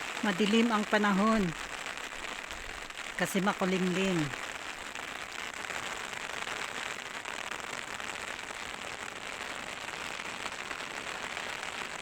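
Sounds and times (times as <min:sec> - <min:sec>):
rain pattering on umbrella: 0:00.0 - 0:12.0.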